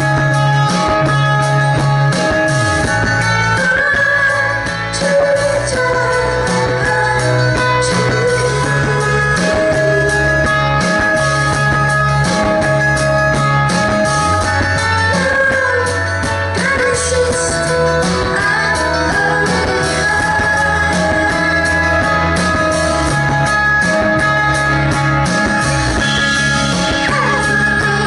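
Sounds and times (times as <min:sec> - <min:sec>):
guitar: 0:00.0 - 0:28.0
woman singing into a microphone: 0:00.0 - 0:28.0.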